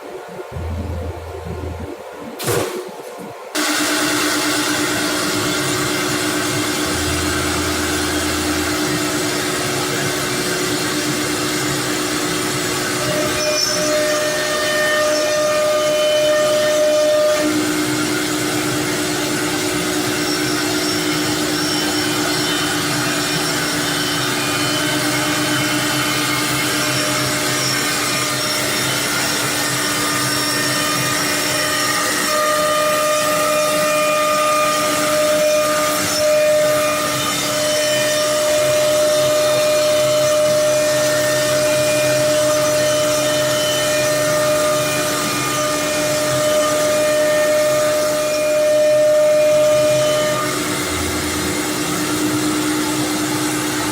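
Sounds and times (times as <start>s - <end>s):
machining noise: 0.4s - 2.8s, 3.6s - 53.9s
router spindle whine: 3.6s - 53.9s.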